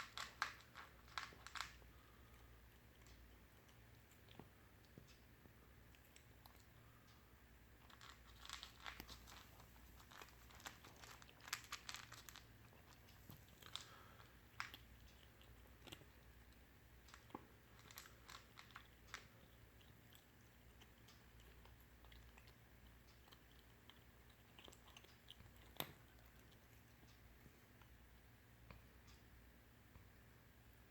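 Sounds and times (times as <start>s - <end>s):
cat crunching dry food: 0.0s - 5.0s, 5.8s - 7.0s, 7.7s - 28.0s.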